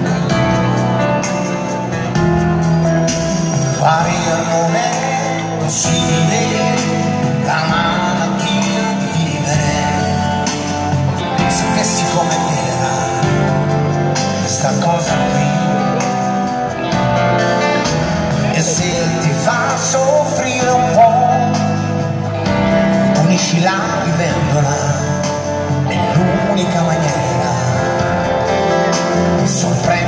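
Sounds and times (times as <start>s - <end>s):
live band playing pop ballad: 0.0s - 30.0s.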